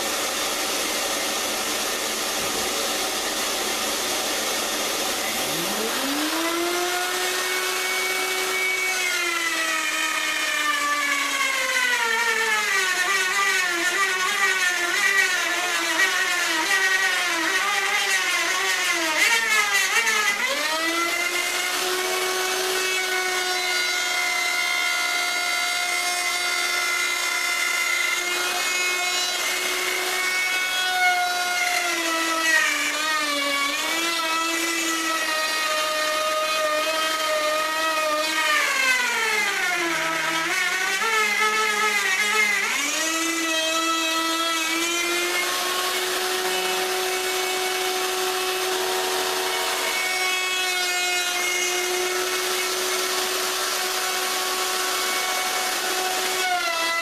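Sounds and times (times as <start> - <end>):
router whining cutting wood: 0.0 - 57.0.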